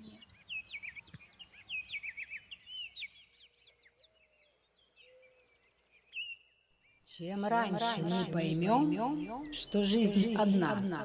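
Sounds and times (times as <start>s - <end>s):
songbirds chirping and warbling: 0.0s - 11.0s.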